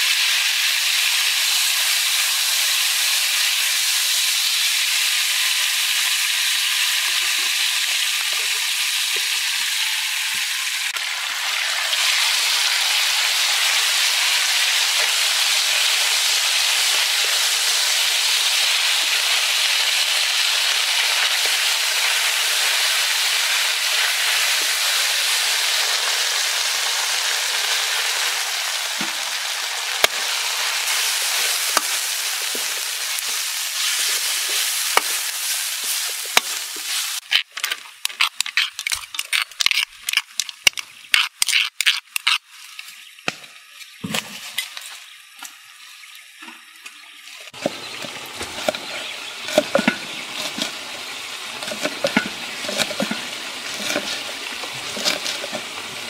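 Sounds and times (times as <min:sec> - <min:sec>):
garlic sizzling in hot oil: 0:00.0 - 0:40.4, 0:41.0 - 0:56.0
oil crackling and popping: 0:00.0 - 0:45.6, 0:46.2 - 0:56.0.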